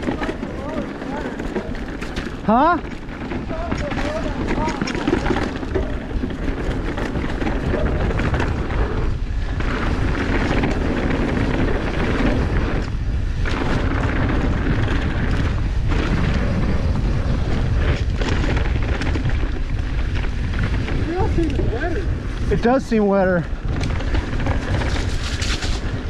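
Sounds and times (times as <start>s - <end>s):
tyre and bike rattle: 0.0s - 26.0s
wind rumble on microphone: 0.0s - 26.0s.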